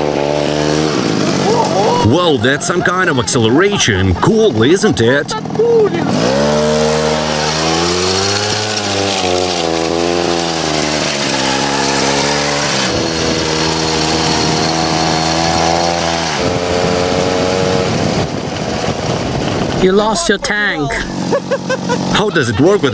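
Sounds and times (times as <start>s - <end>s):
two-stroke engine revving: 0.0s - 18.8s.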